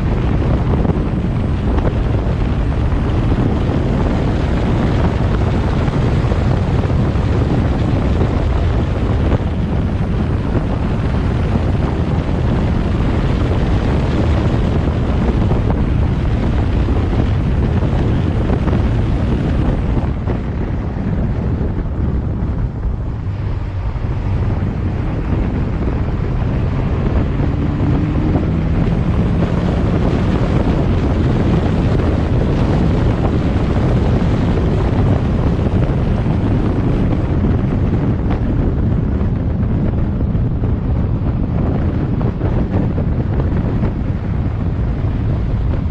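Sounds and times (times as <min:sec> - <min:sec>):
low road rumble: 0:00.0 - 0:45.9
wind buffeting microphone: 0:00.0 - 0:45.9.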